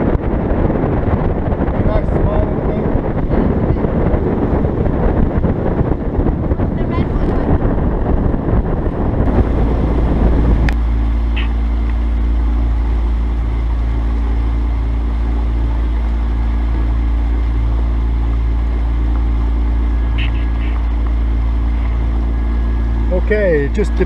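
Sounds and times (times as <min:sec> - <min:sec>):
boat engine running: 0:00.0 - 0:24.0
wind buffeting microphone: 0:00.0 - 0:24.0.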